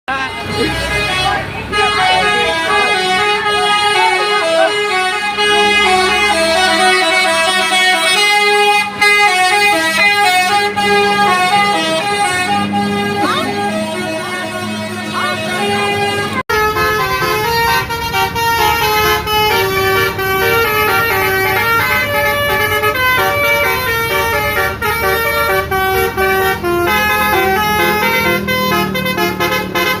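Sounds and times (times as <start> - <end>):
bus horn playing a melody: 0.1 - 30.0.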